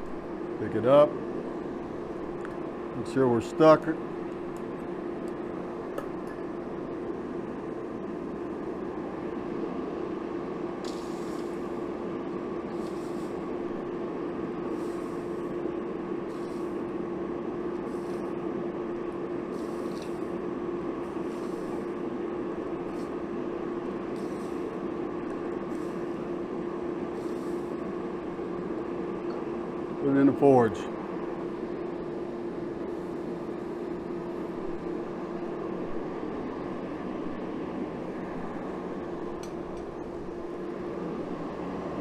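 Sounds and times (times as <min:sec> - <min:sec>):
forge droning: 0:00.0 - 0:42.0.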